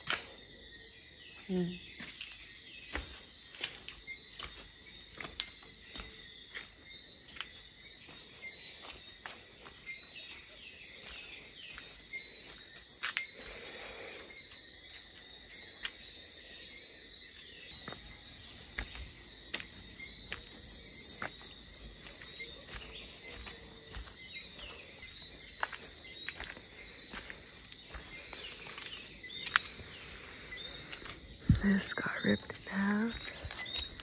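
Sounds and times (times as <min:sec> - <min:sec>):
insects trilling: 0:00.0 - 0:34.0
birds whistling: 0:01.0 - 0:34.0
footsteps on concrete: 0:02.0 - 0:13.8, 0:17.4 - 0:34.0.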